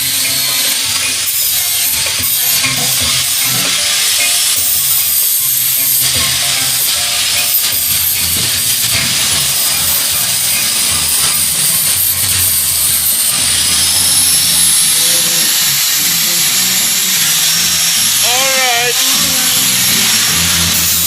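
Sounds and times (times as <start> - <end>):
electric power tool running: 0.0 - 21.0.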